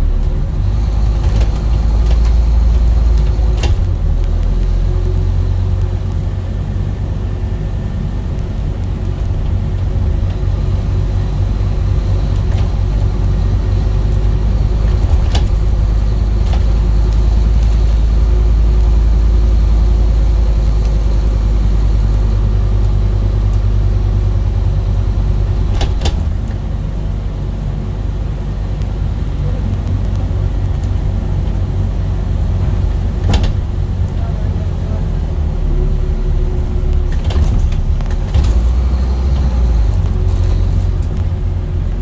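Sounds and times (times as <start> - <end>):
bus diesel engine droning: 0.0 - 42.0.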